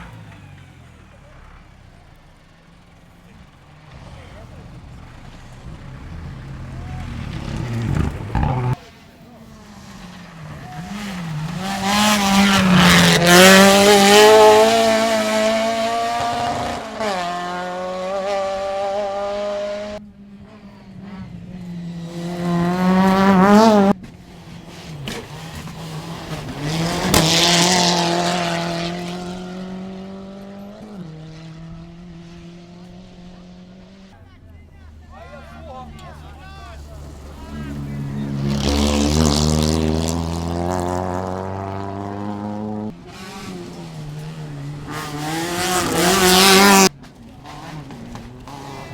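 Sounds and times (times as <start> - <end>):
rally car engines revving: 0.0 - 48.9.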